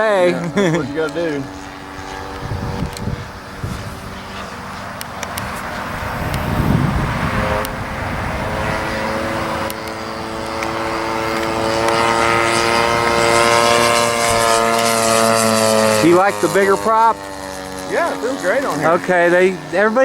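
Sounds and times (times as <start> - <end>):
model plane engine running: 0.0 - 20.0.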